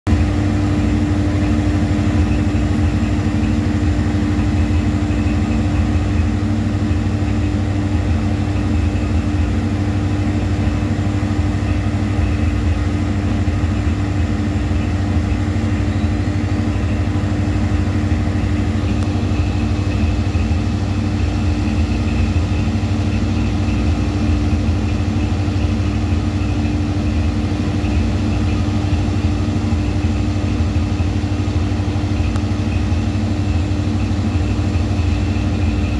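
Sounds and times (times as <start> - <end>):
generator hum: 0.0 - 35.9
generator rumbling: 0.0 - 35.9.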